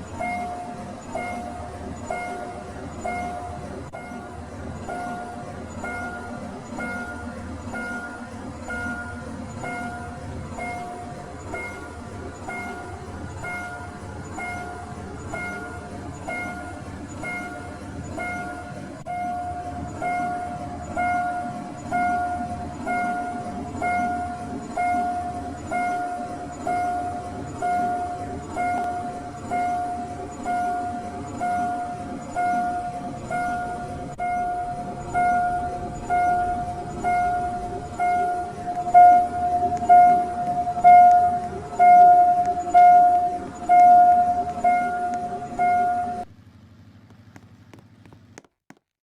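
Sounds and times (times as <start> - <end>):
train rumble: 0.0 - 46.3
level crossing bell ringing: 0.1 - 46.3.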